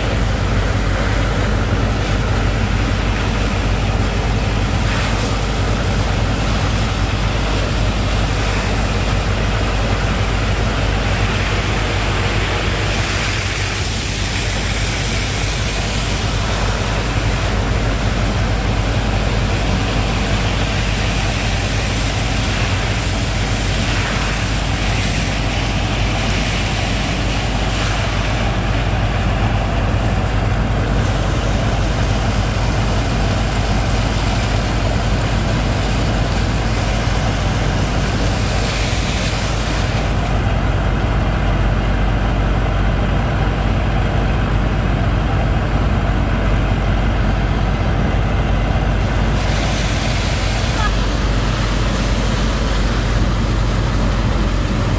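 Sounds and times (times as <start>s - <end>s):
engine running under load: 0.0s - 54.9s
water and sand rushing through pump: 0.0s - 54.9s.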